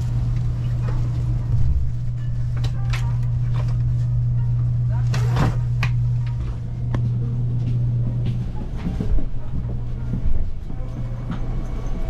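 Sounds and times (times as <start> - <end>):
train humming: 0.0 - 12.0.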